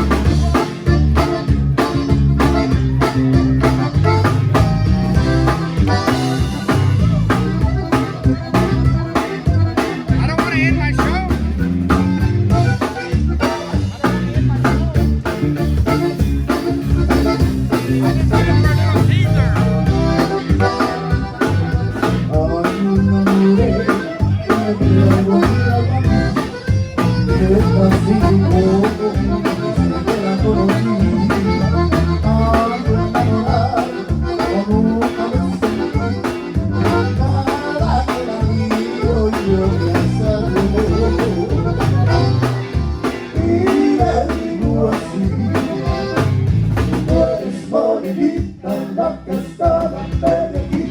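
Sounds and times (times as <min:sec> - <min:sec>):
accordion: 0:00.0 - 0:50.9
band playing live: 0:00.0 - 0:50.9.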